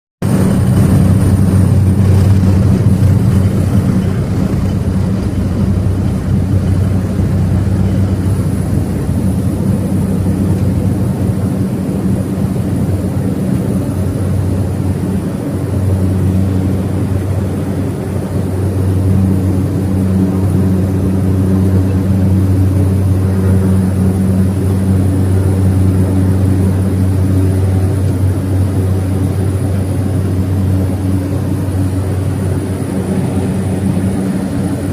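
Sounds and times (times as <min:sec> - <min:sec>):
low propeller hum: 0:00.2 - 0:34.9
turboprop engine drone: 0:00.2 - 0:34.9.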